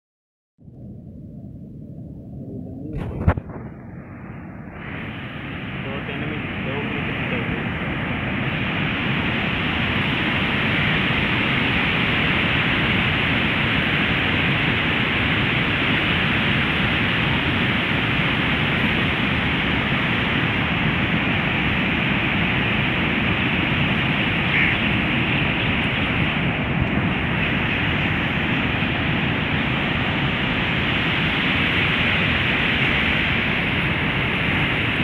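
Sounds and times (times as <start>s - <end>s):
rushing turbulent river water: 3.0s - 35.0s.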